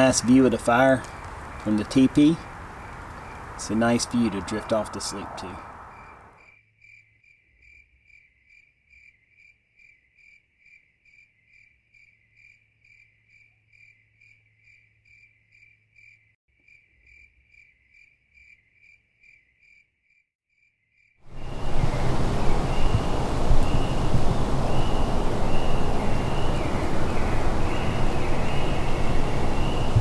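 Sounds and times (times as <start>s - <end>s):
cricket chirping: 0.0s - 30.0s.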